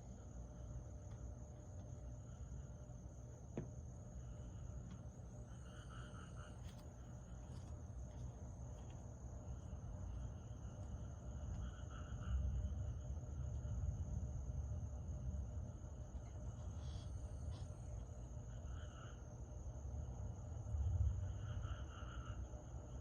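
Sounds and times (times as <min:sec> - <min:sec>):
insects trilling: 0:00.0 - 0:23.0
lower pulsed insect call: 0:00.0 - 0:23.0.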